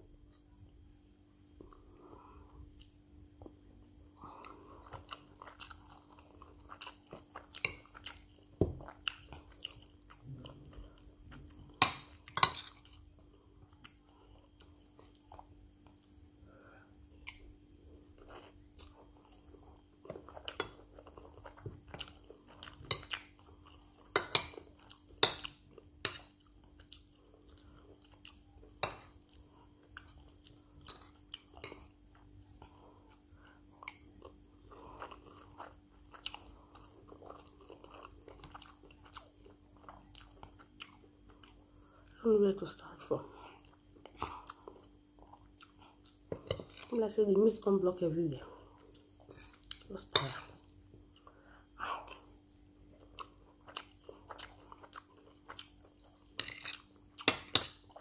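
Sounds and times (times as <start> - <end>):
person chewing food: 0.2 - 58.0.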